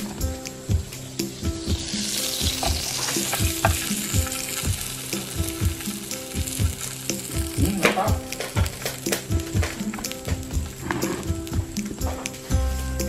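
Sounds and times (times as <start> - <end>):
food sizzling and frying: 0.0 - 13.0
pop music with steady beat: 0.0 - 13.0.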